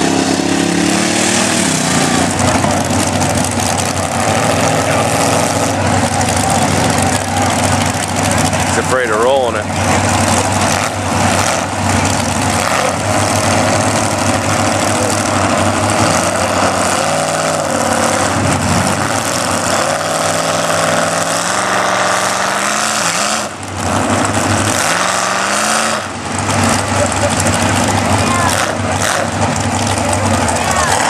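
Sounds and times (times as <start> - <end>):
loud steady noise: 0.0 - 31.0
truck engine revving: 0.0 - 31.0.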